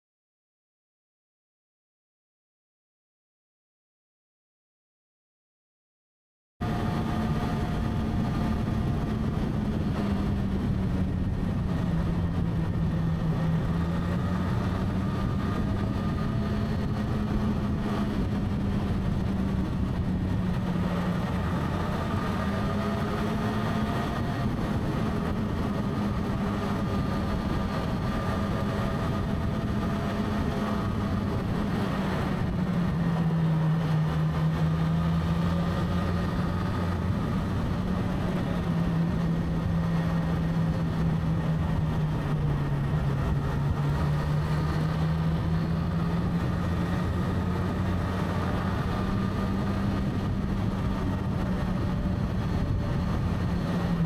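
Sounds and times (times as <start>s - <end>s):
road and wind noise: 6.6s - 54.0s.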